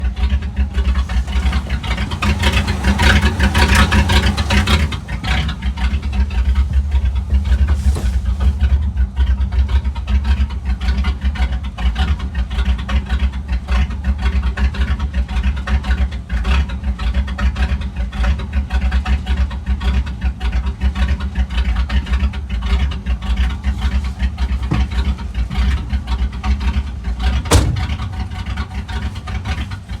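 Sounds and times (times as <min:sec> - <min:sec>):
pickup engine idling: 0:00.0 - 0:30.0.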